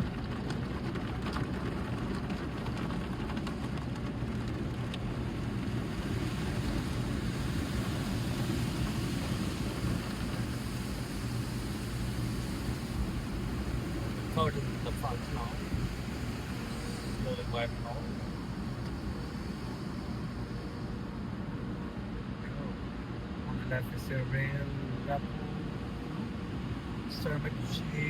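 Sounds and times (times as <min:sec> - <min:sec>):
car wash rumbling: 0:00.0 - 0:28.0.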